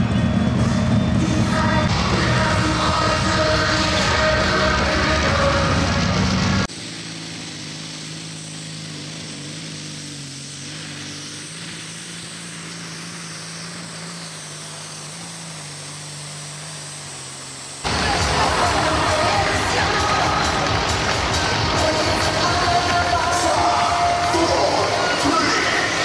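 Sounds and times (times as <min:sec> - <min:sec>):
engine idling: 0:00.0 - 0:26.0
loud noise: 0:00.0 - 0:26.0.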